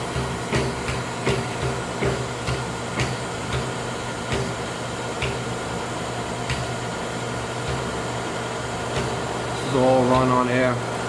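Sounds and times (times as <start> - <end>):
grinder humming: 0.0 - 11.0.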